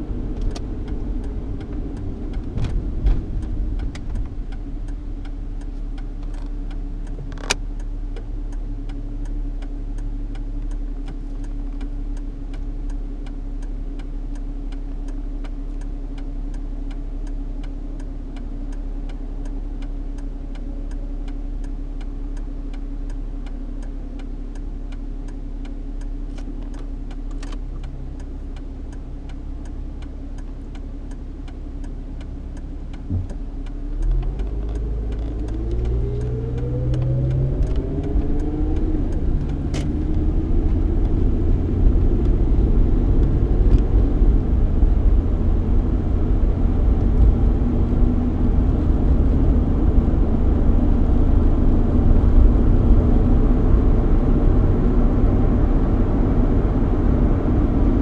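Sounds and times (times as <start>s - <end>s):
car accelerating: 0.0s - 58.0s
car engine idling: 0.0s - 58.0s
light ticking: 0.1s - 54.1s.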